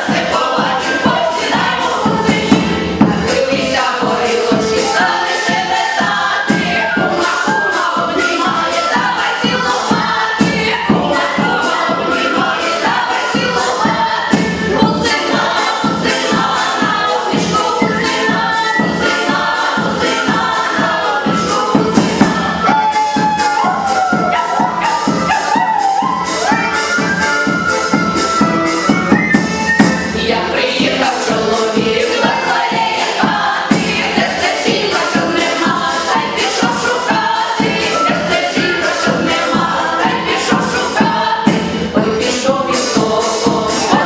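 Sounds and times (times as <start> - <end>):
choir singing: 0.0 - 44.0
song with steady beat: 0.0 - 44.0.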